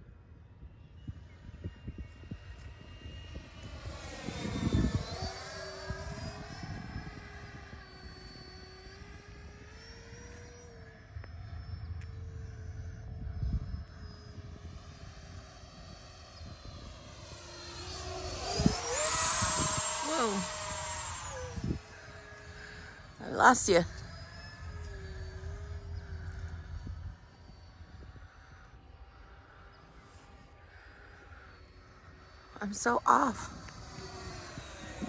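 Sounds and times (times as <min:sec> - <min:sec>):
model jet whining overhead: 0:00.0 - 0:35.0.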